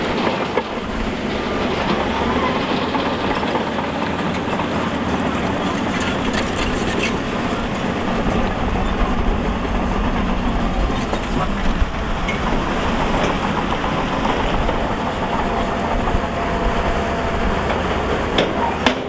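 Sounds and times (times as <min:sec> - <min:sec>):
blade pushing rock and soil: 0:00.0 - 0:18.6
bulldozer diesel engine under load: 0:00.0 - 0:19.0.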